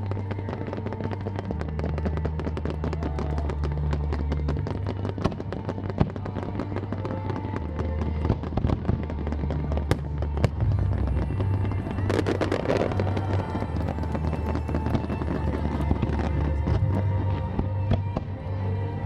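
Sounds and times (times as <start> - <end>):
fireworks bursting: 0.0 - 18.4
fireworks crackling: 0.0 - 19.0
music soundtrack: 0.0 - 19.0.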